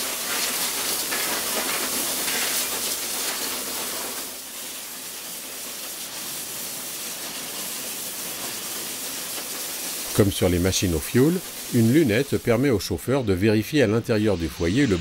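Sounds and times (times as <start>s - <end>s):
steam jets hissing: 0.0s - 15.0s.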